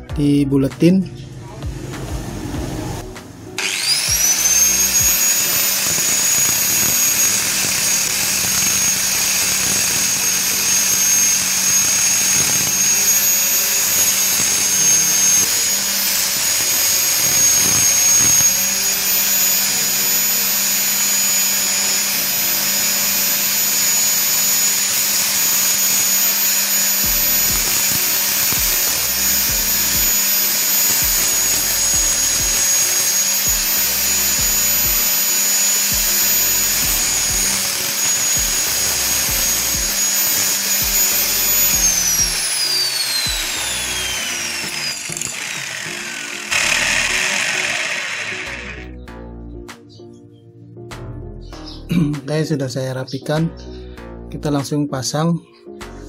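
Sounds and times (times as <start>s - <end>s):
angle grinder whining: 1.2s - 49.0s
steel grinding against wheel: 2.5s - 48.8s.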